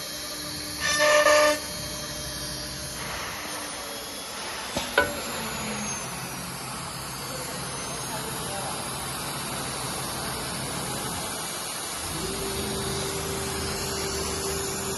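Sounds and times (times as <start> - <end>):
router steady hiss: 0.0 - 14.9.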